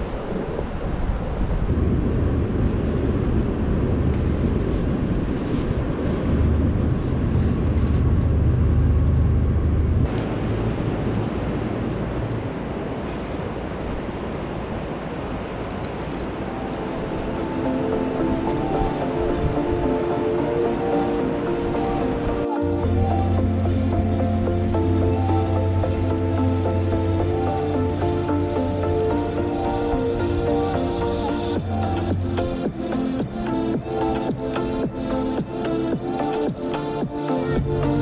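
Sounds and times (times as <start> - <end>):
water: 0.0 - 38.0
wind: 0.0 - 38.0.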